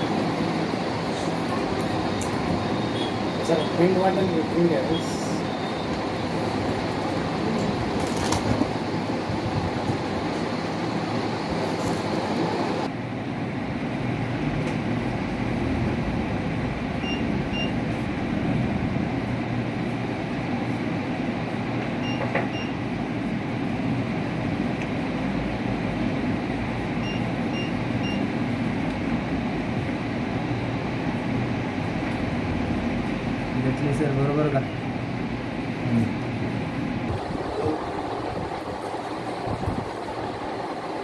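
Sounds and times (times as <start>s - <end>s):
background hum and hiss: 0.0s - 41.0s.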